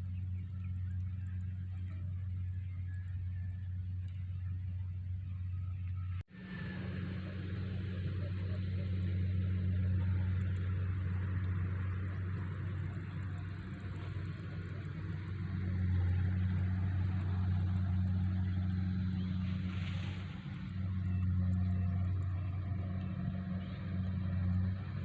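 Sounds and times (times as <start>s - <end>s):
engine droning steadily: 0.0s - 25.0s.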